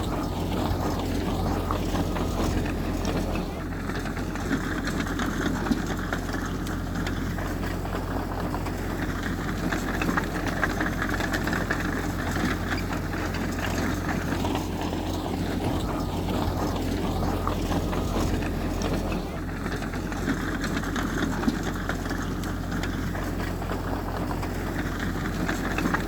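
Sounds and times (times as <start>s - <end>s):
heavy machinery diesel engine running: 0.0s - 26.0s.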